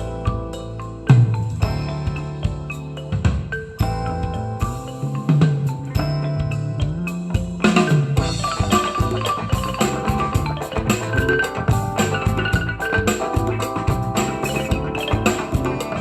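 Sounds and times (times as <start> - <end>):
music through a loudspeaker: 0.0 - 16.0.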